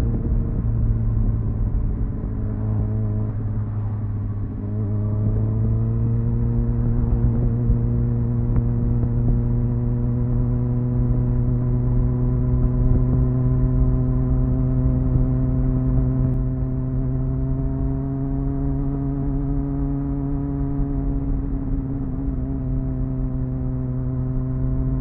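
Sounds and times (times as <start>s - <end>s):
motorcycle engine cruising: 0.0s - 25.0s.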